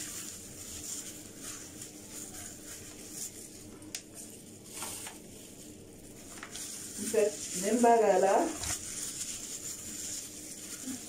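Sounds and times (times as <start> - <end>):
gloved hands squishing in hair: 0.0 - 11.0.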